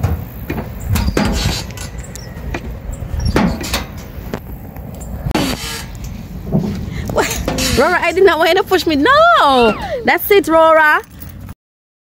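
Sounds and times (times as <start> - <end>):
wind rumbling on microphone: 0.0 - 11.5.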